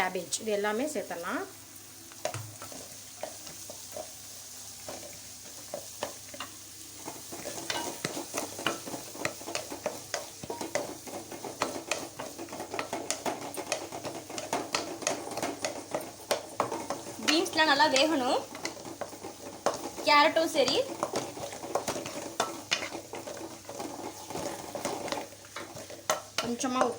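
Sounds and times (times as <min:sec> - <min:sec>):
vegetables sizzling in hot oil: 0:00.0 - 0:26.9
spatula scraping a pan: 0:04.8 - 0:26.9.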